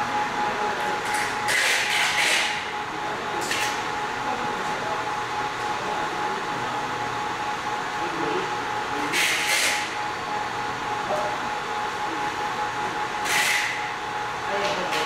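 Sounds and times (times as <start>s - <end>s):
hot-air blower whirring: 0.0s - 15.0s
thin steady whine: 0.0s - 15.0s.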